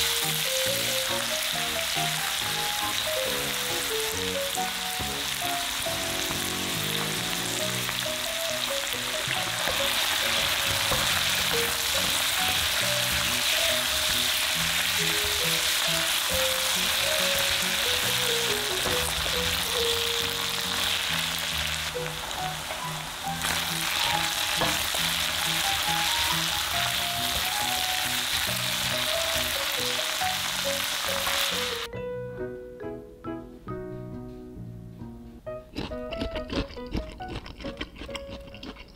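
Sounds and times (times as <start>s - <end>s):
food sizzling in a frying pan: 0.0s - 31.9s.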